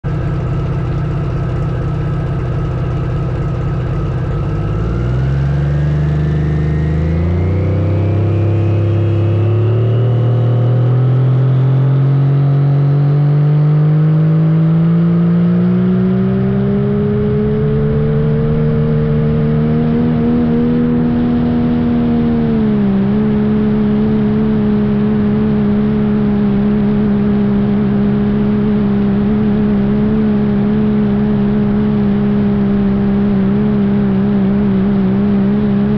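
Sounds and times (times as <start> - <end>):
diesel truck engine revving: 0.0 - 35.9.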